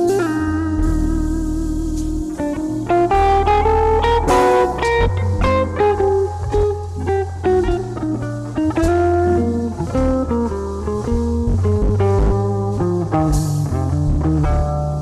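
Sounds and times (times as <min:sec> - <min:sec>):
electric guitar playing a tune: 0:00.0 - 0:15.0
sustained low bass notes: 0:00.0 - 0:15.0.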